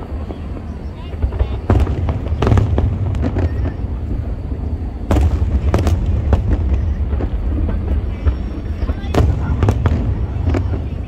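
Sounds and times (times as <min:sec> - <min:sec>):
continuous low rumble: 0:00.0 - 0:11.0
fireworks bursting: 0:00.0 - 0:11.0.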